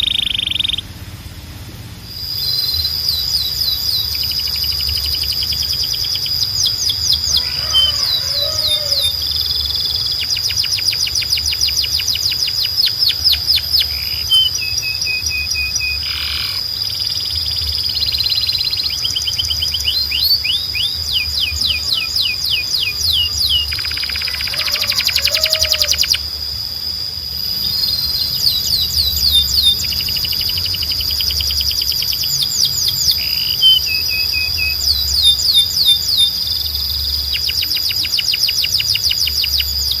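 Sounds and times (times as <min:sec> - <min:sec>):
canary singing: 0:00.0 - 0:01.1, 0:02.0 - 0:40.0.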